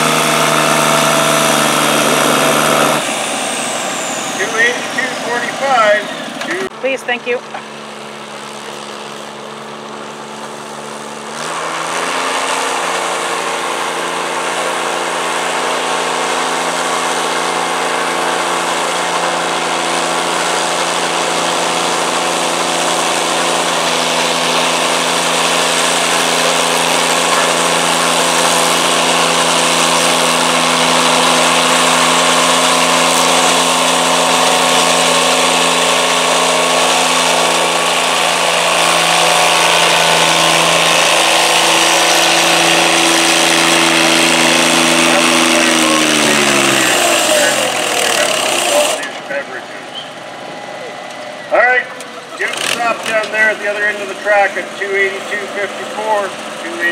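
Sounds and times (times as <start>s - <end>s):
diesel tractor engine revving: 0.0s - 56.9s.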